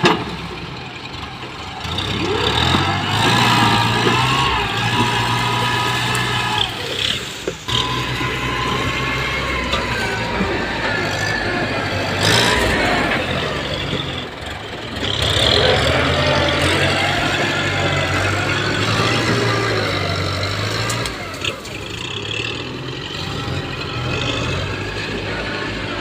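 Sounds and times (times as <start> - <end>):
tractor diesel engine humming: 0.0 - 26.0.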